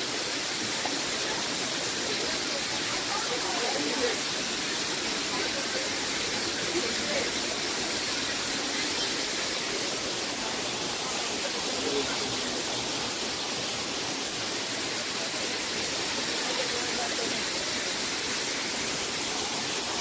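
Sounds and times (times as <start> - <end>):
waterfall pouring into pool: 0.0 - 20.0.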